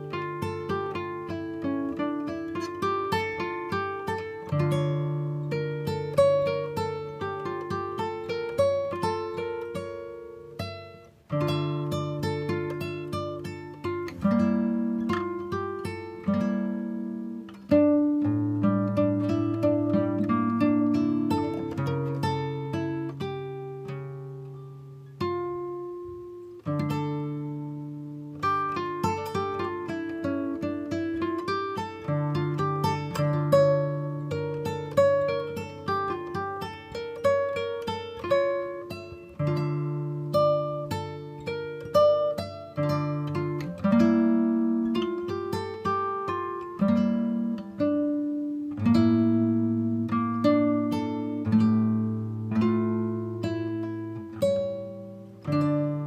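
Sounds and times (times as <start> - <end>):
acoustic guitar plucked slowly: 0.0 - 56.0.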